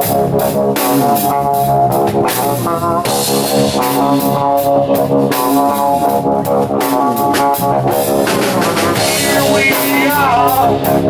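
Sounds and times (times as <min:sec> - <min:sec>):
drum kit with cymbal hits: 0:00.0 - 0:11.0
electric guitar chords: 0:00.0 - 0:11.0.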